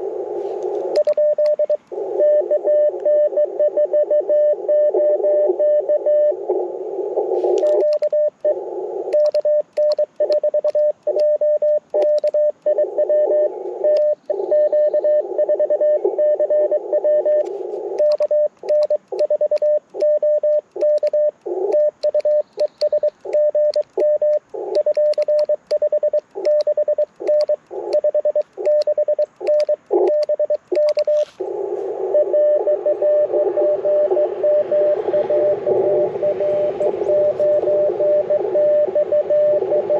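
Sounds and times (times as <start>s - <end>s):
receiver hiss: 0.0s - 39.9s
morse code sidetone: 0.6s - 6.4s, 7.2s - 39.9s.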